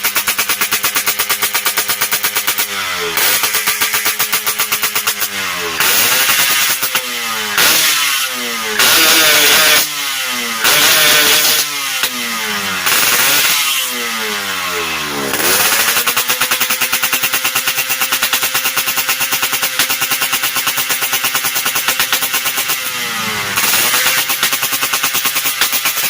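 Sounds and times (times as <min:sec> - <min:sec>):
motorcycle engine idling: 0:00.0 - 0:26.0
two-stroke motorcycle engine revving: 0:00.0 - 0:26.0.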